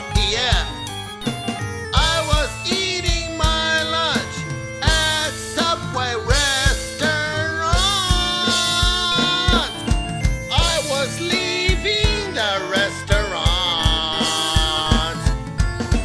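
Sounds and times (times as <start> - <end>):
song with drum beat: 0.0 - 16.0.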